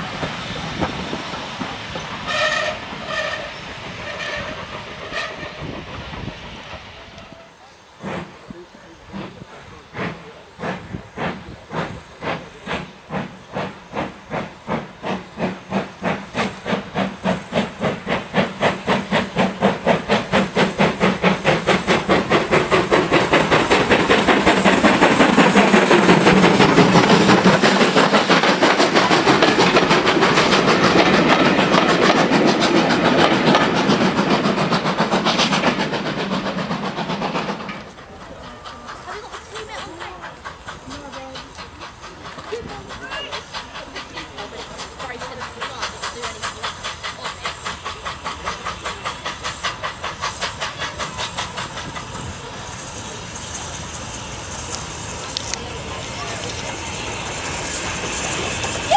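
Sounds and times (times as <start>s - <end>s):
steam hiss: 0.0s - 58.9s
steam locomotive chuffing: 0.0s - 58.9s.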